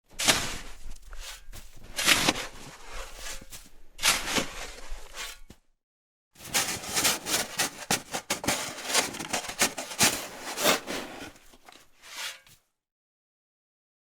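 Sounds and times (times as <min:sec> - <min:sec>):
snow shovel scraping snow: 0:00.2 - 0:05.4, 0:06.4 - 0:12.4.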